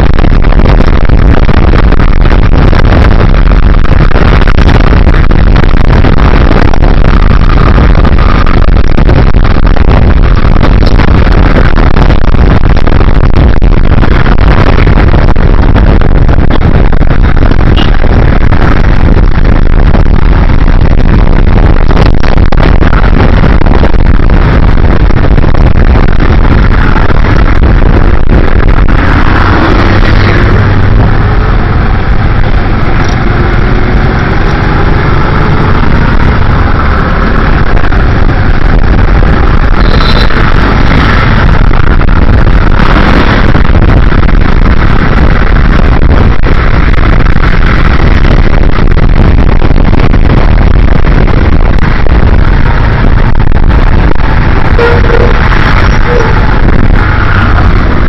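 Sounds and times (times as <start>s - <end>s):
motorcycle engine: 0.0s - 48.8s, 50.0s - 58.0s
passing traffic: 0.0s - 58.0s
wind rushing over microphone: 0.0s - 58.0s.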